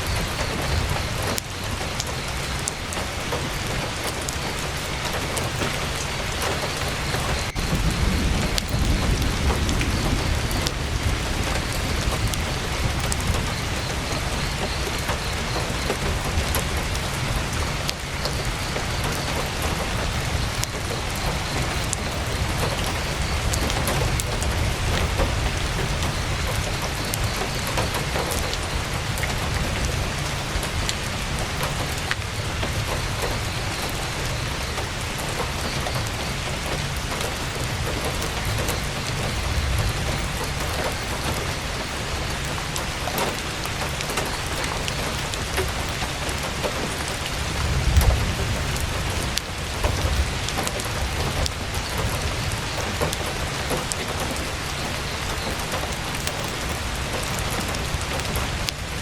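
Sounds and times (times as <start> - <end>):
campfire crackling: 0.0 - 59.0
heavy rain on tent canvas: 0.0 - 59.0.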